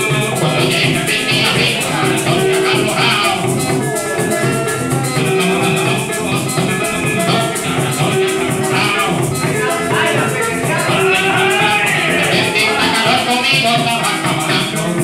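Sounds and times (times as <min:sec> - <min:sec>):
maracas shaking: 0:00.0 - 0:15.0.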